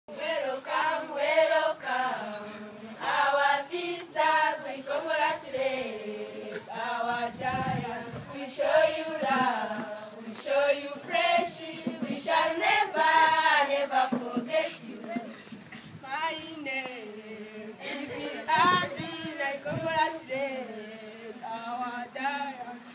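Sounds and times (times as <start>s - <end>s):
girls singing together: 0.1s - 22.9s.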